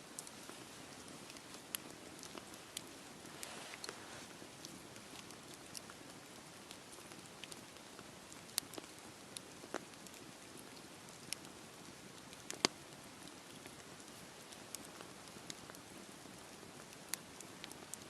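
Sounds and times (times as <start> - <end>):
rain hiss: 0.0 - 18.0
campfire pops and ticks: 0.1 - 18.0.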